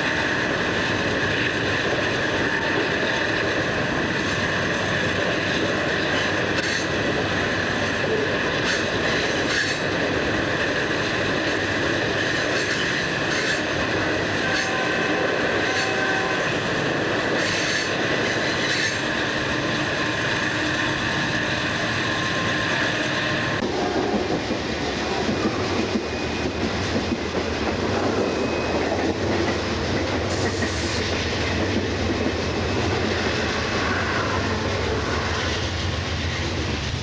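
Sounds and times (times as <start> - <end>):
freight train wheel squeal: 0.0 - 37.0.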